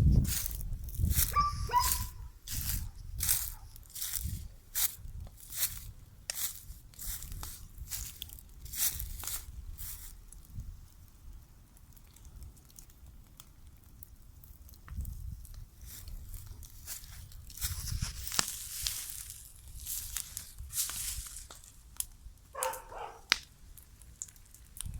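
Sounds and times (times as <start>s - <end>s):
bonfire crackling: 0.0s - 24.9s
low fire rumble: 0.0s - 24.9s
sharp snaps and pops: 0.2s - 24.9s.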